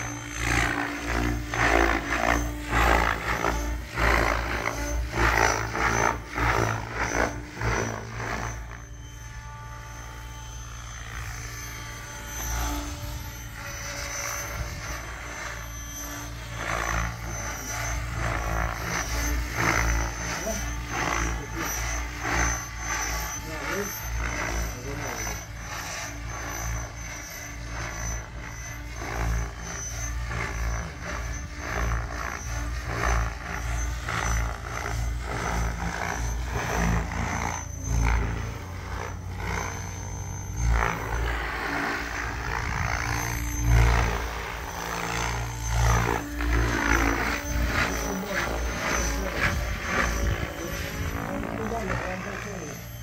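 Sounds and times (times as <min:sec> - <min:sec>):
rc helicopter rotor whine: 0:00.0 - 0:53.0.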